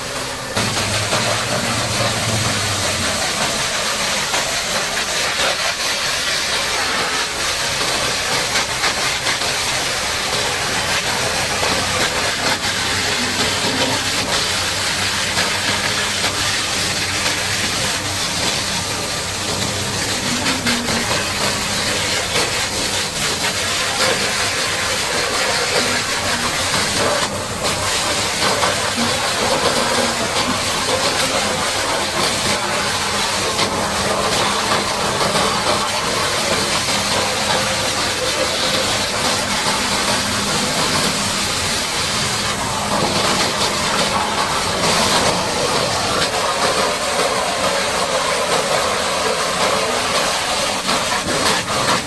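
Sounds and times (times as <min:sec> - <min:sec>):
high-pressure water spray hissing: 0:00.0 - 0:52.0.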